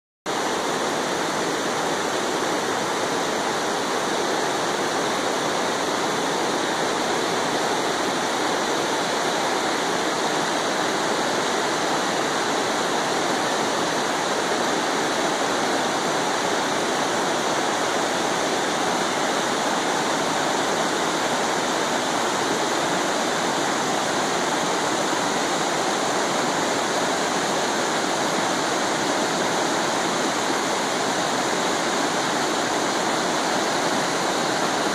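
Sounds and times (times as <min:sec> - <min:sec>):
stream rushing over rocks: 0:00.3 - 0:34.9.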